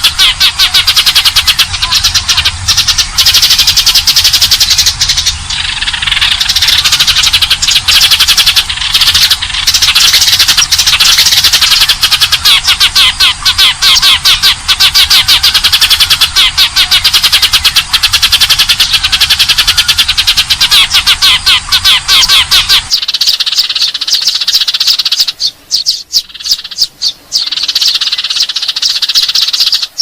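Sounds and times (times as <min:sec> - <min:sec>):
sparrows chirping rapidly: 0:00.0 - 0:30.0.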